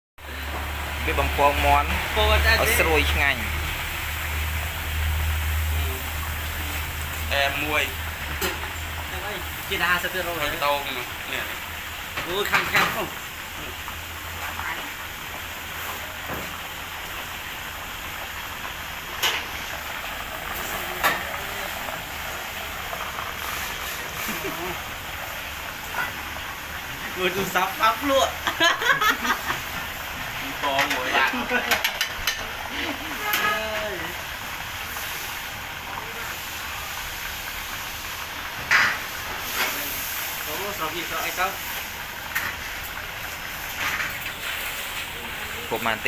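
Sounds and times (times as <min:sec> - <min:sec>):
chicken deep-frying in oil: 0:00.2 - 0:46.0.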